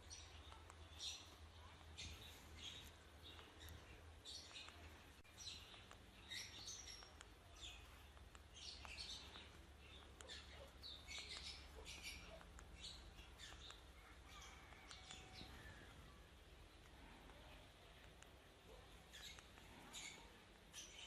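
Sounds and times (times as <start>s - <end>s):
parrot chirping: 0.0s - 16.8s, 17.4s - 21.0s.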